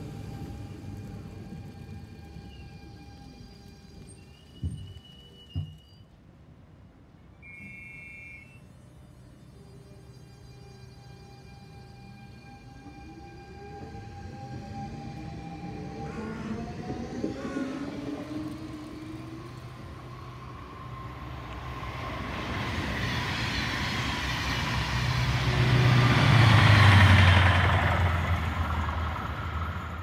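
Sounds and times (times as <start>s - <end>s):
electric train motors whining: 0.0s - 6.0s, 8.4s - 29.9s
train rumble: 0.0s - 7.8s, 8.9s - 30.0s
rushing rail noise: 0.0s - 30.0s.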